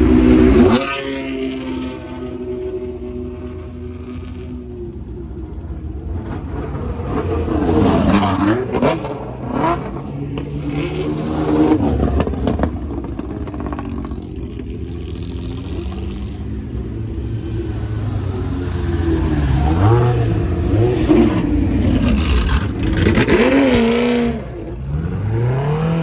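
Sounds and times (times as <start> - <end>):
racing car engines passing: 0.0 - 26.0.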